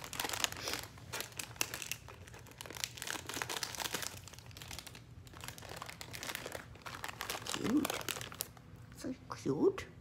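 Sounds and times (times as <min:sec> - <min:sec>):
crinkly snack bag rustling: 0:00.0 - 0:09.1.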